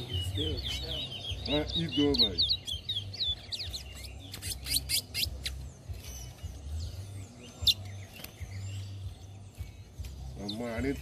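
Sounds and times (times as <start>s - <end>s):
finches chirping and whistling: 0.0s - 11.0s.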